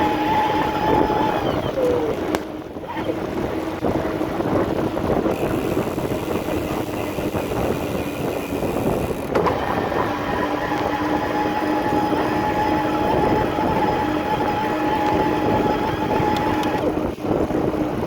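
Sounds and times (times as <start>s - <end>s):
electric bike motor whine: 0.0s - 18.0s
tyres and drivetrain rolling: 0.0s - 18.0s.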